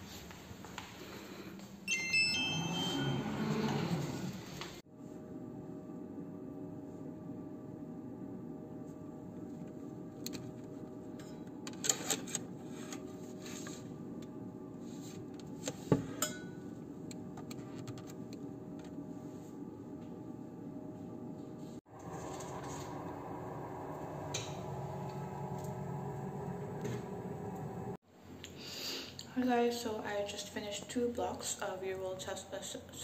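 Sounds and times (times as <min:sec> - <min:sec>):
steady indoor hum: 0:00.2 - 0:32.8.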